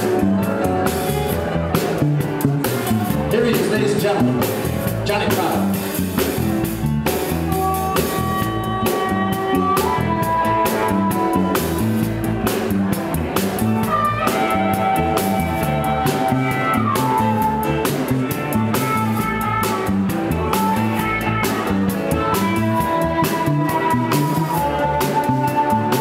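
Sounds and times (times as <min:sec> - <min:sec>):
held lead guitar notes: 0:00.0 - 0:26.0
live blues band playing: 0:00.0 - 0:26.0
walking bass line: 0:00.0 - 0:26.0.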